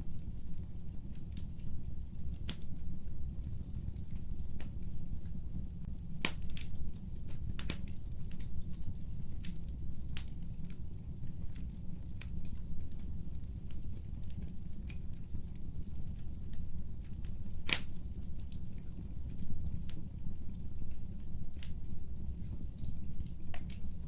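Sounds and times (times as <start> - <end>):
fire popping and snapping: 0.0 - 24.0
low rumble of flames: 0.0 - 24.0.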